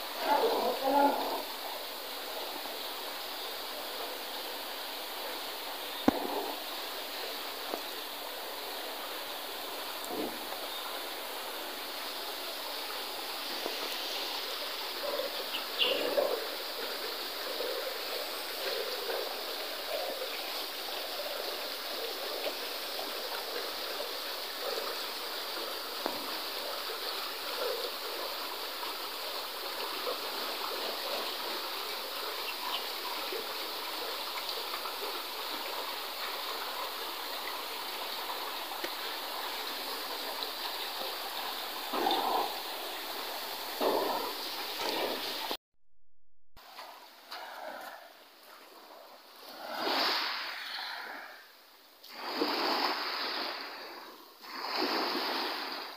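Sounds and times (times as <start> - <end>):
running water rushing: 0.0 - 45.6, 46.6 - 55.9.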